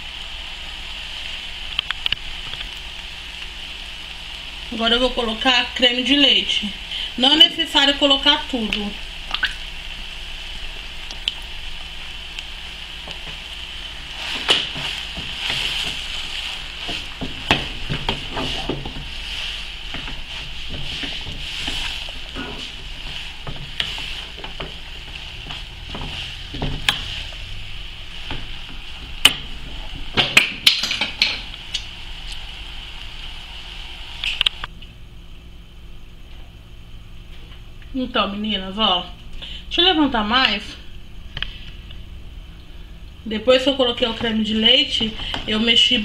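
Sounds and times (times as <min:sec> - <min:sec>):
steady hiss: 0:00.0 - 0:46.0.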